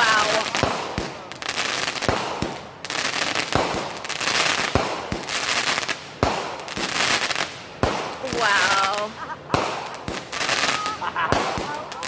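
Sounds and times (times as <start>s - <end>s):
deep firework booms: 0.0s - 1.3s, 2.0s - 2.8s, 3.4s - 8.9s, 9.5s - 11.9s
crackling firework shells: 0.0s - 12.0s.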